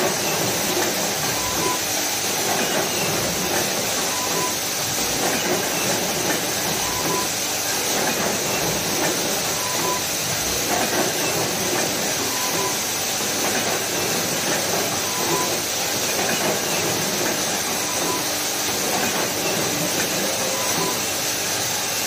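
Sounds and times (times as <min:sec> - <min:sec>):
machine clatter and hiss: 0:00.0 - 0:22.0.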